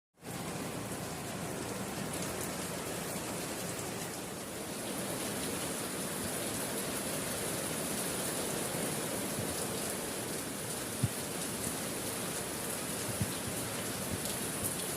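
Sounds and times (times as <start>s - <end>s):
steady rainfall: 0.2s - 14.9s.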